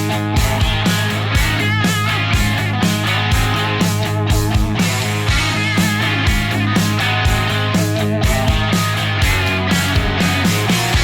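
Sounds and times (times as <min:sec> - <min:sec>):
rock music with electric guitar: 0:00.0 - 0:11.0
steady drum beat: 0:00.0 - 0:11.0.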